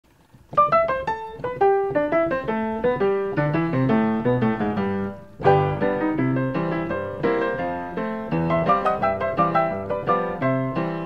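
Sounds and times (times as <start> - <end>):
bright piano melody: 0.1 - 11.0.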